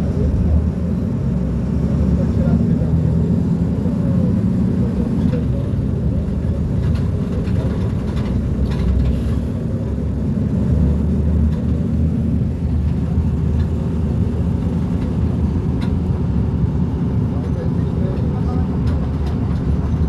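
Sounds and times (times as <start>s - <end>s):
bus engine droning: 0.0s - 20.0s.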